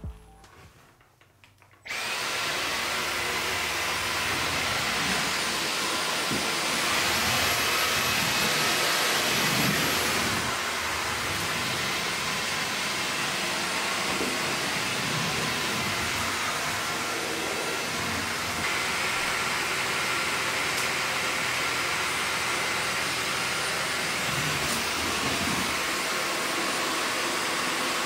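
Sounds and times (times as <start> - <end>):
stick vacuum running: 1.6 - 28.0.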